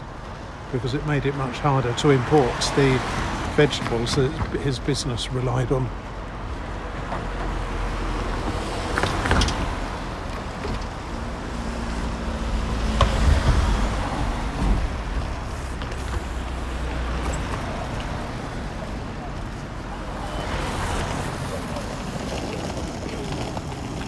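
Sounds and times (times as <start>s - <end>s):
engine hum: 0.0s - 24.0s
road traffic rumble: 0.0s - 24.0s.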